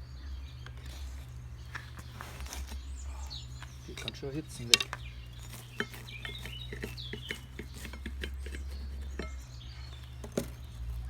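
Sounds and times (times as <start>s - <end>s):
small birds chirping: 0.0s - 11.0s
campfire crackling and popping: 0.4s - 11.0s.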